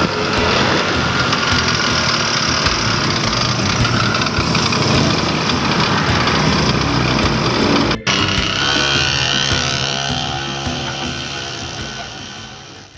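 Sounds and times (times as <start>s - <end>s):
two-stroke engine idling: 0.0s - 12.9s.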